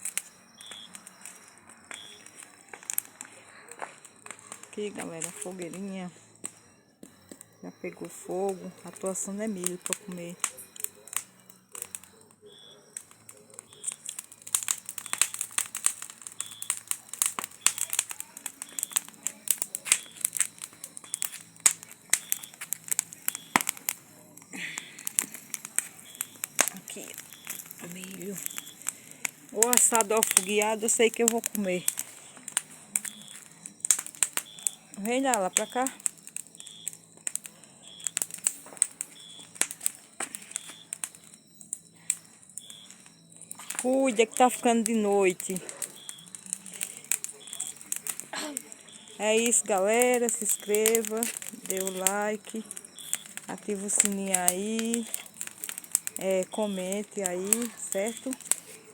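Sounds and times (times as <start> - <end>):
bonfire crackling and popping: 0.0 - 58.9.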